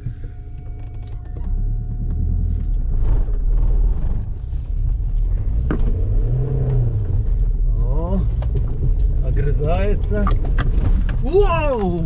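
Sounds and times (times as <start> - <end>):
car engine droning under load: 0.0 - 12.0.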